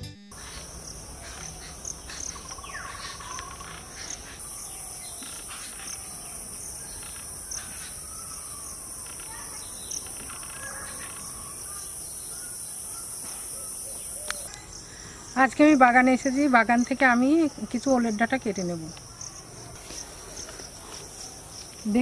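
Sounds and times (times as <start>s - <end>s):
birds chirping: 0.3s - 22.0s
insects droning: 0.3s - 22.0s.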